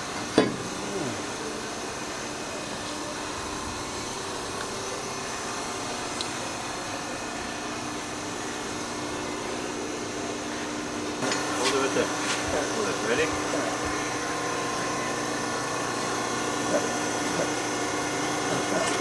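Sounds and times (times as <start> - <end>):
machine humming and hissing: 0.0 - 19.0.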